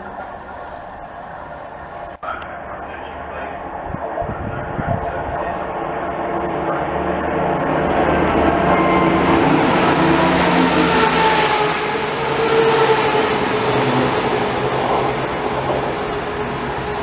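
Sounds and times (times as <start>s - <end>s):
train passing close: 0.0s - 17.0s.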